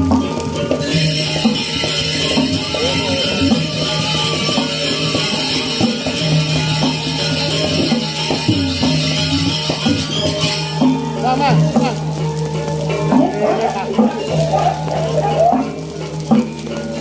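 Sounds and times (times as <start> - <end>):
gamelan ensemble playing: 0.0 - 17.0.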